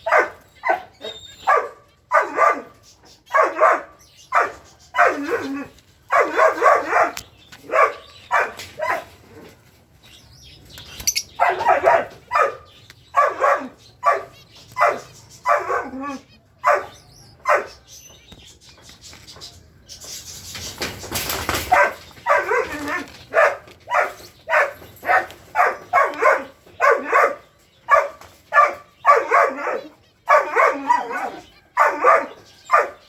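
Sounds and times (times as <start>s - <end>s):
dog barking: 0.0s - 9.2s, 11.1s - 17.9s, 21.6s - 33.0s.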